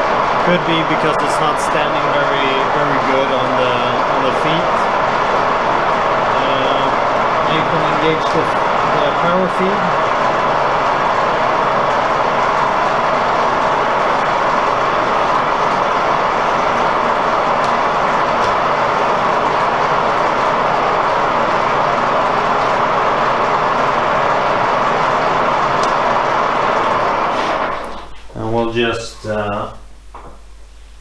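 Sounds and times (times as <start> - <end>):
milling machine running: 0.0 - 28.2.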